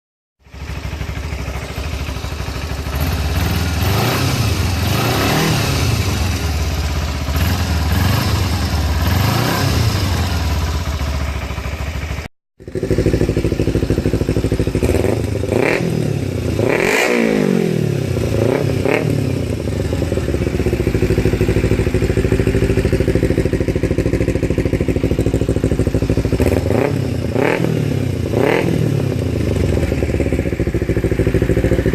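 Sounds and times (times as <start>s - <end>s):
motorcycle engine idling and revving: 0.4s - 31.9s.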